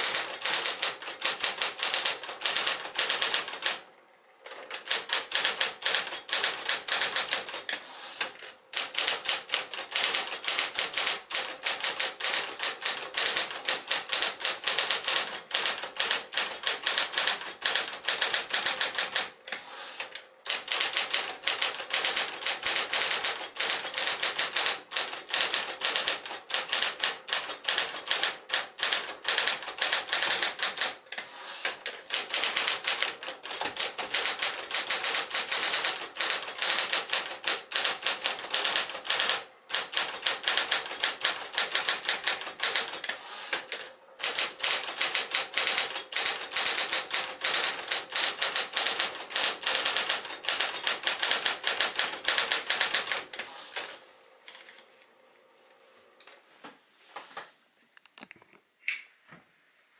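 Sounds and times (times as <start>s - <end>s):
electric typewriter keystrokes: 0.0s - 3.8s, 4.5s - 54.8s.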